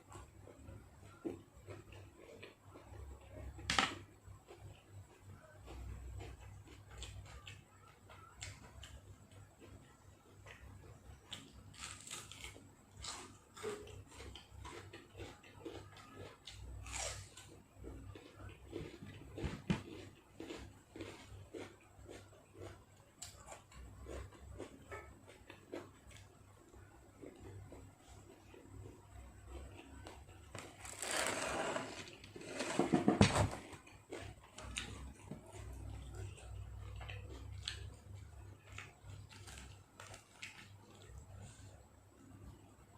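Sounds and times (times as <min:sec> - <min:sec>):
person chewing crunchy food: 0:00.0 - 0:03.7, 0:04.3 - 0:41.8.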